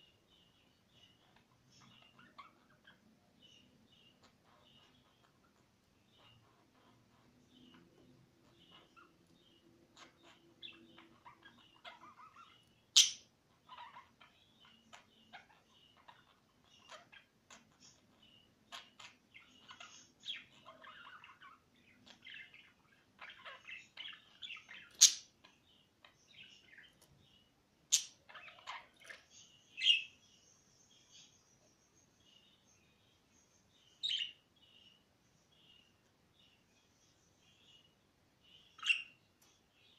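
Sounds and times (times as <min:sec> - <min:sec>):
parrots chirping and twittering: 0:00.0 - 0:39.9.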